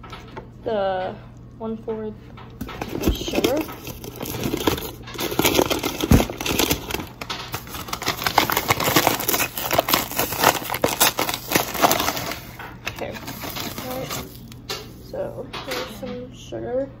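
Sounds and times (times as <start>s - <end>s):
sugar crinkling and rattling: 2.4s - 16.2s.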